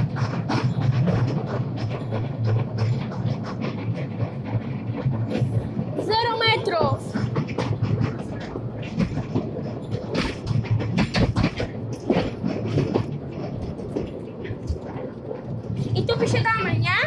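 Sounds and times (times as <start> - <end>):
carriage rattling over rails: 0.0 - 17.0
low train rumble: 0.0 - 17.0
train wheels clicking: 0.0 - 17.0.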